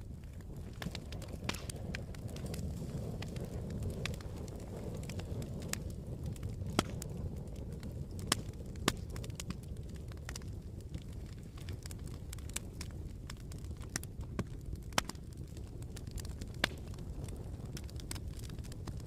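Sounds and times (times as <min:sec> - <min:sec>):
campfire crackling and popping: 0:00.0 - 0:19.0
low rumble of burning: 0:00.0 - 0:19.0.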